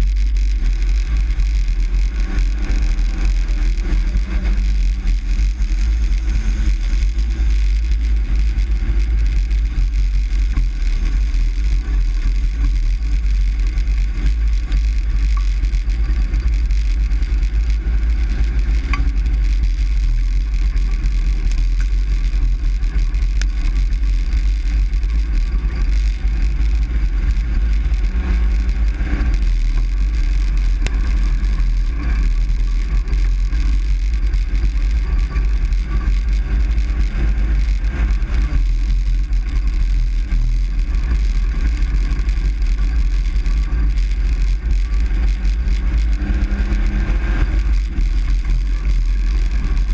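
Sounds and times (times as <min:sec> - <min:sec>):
truck engine and road noise: 0:00.0 - 0:49.9.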